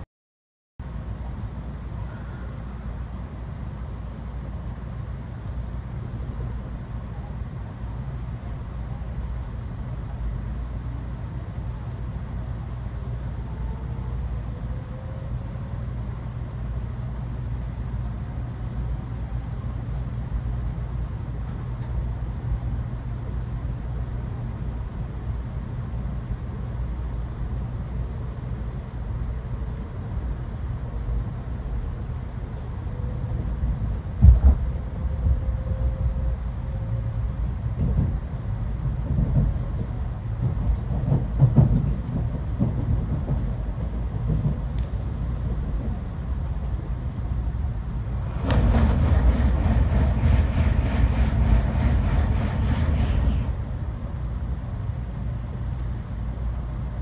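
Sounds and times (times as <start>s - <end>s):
train rumble inside cabin: 0.8s - 57.0s.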